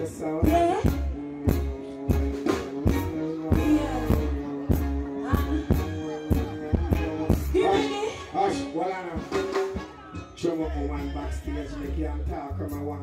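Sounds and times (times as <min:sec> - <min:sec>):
live band music: 0:00.0 - 0:13.0.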